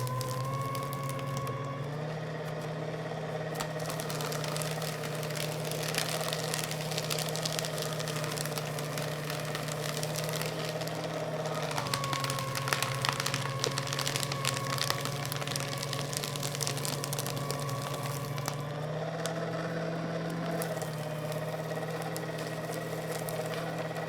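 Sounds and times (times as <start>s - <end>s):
paper crackling in shredder: 0.0s - 24.0s
paper shredder motor humming: 0.0s - 24.0s.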